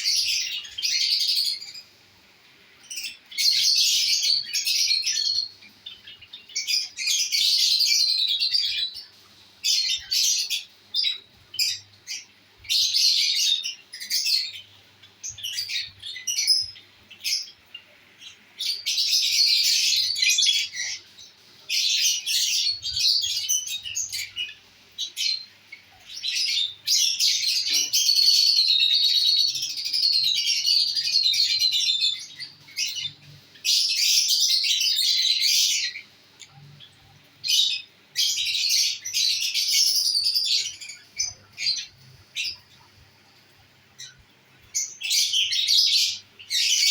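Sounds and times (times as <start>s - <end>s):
lovebirds chirping and squawking: 0.0s - 46.9s.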